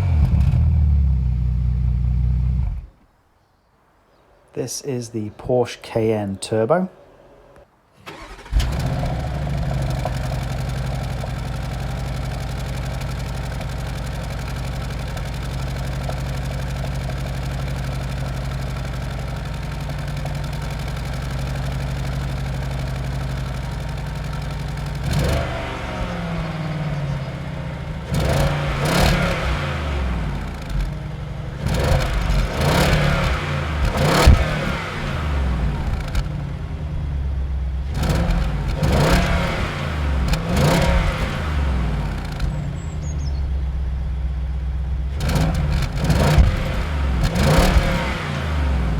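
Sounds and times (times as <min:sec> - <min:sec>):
engine revving blips: 0:00.0 - 0:02.9, 0:08.1 - 0:36.8, 0:37.8 - 0:43.6, 0:45.1 - 0:48.9
car engine starting and idling: 0:00.0 - 0:03.0, 0:08.0 - 0:48.9.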